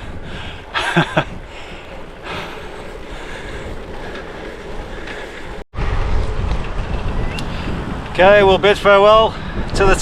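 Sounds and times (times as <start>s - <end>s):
wind rushing over microphone: 0.0s - 10.0s.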